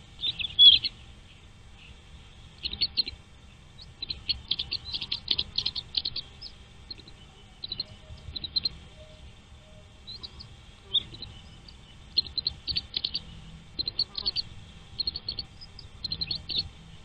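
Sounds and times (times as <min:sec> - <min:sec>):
nestling birds chirping: 0:00.0 - 0:17.0.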